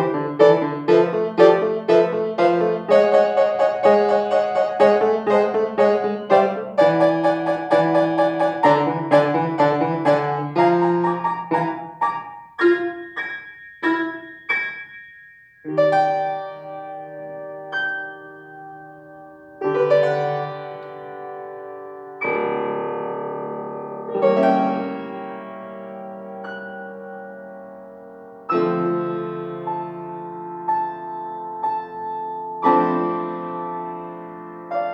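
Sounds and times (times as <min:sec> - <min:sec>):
solo piano playing: 0:00.0 - 0:34.9.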